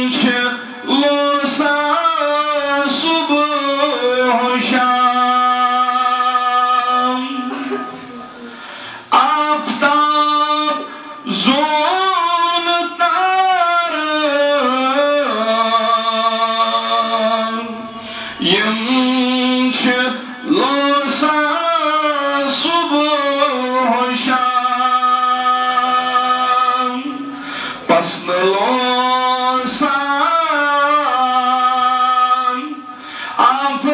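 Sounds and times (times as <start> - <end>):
man singing into a microphone: 0.0 - 33.9.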